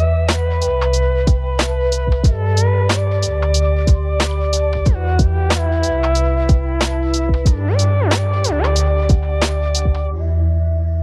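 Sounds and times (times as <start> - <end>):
lo-fi chill music: 0.0 - 11.0.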